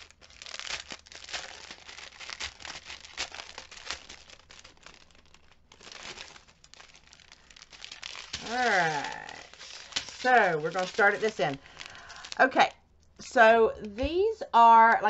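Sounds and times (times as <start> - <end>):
plastic bags crinkling: 0.0 - 14.3.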